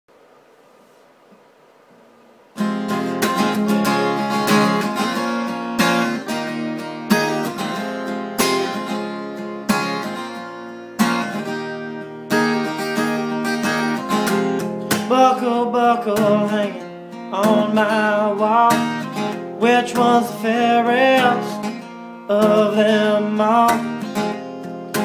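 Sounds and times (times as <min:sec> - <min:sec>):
acoustic guitar strumming: 0:02.5 - 0:25.0.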